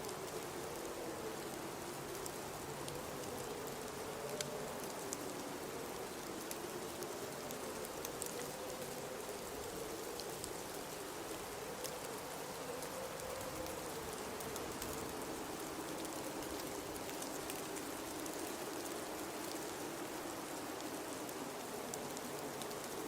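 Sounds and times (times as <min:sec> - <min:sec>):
faint scattered ticks: 0:00.0 - 0:23.0.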